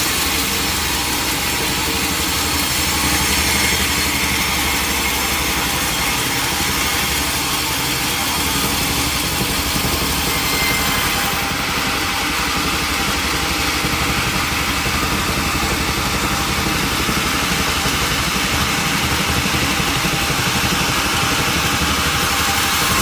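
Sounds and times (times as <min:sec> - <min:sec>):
sawmill machinery drone: 0:00.0 - 0:23.0.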